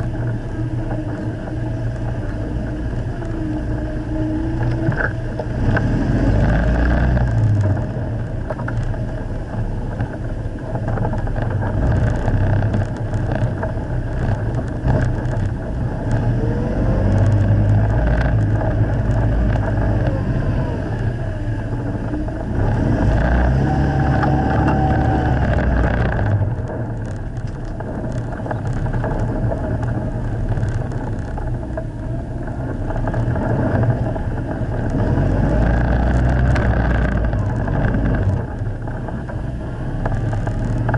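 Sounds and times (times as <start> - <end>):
engine running under load: 0.0 - 40.9.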